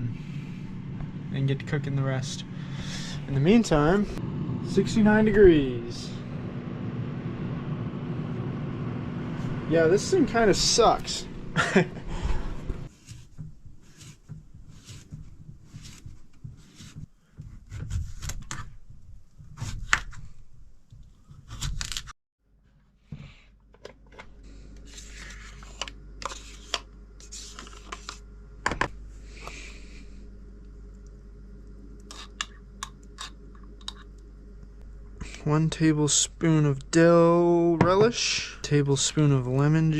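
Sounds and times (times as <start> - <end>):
steady low hum: 0.0 - 21.1, 23.4 - 39.9.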